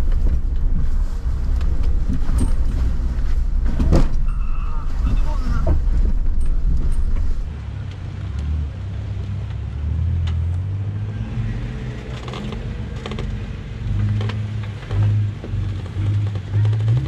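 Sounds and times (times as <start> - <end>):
off-road vehicle engine humming: 0.0 - 17.0.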